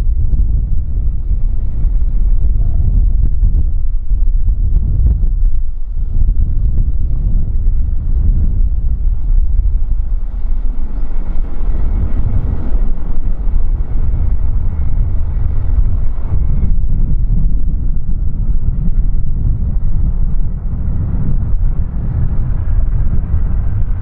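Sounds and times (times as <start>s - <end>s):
jet engine whine: 0.0s - 24.0s
wind buffeting microphone: 0.0s - 24.0s.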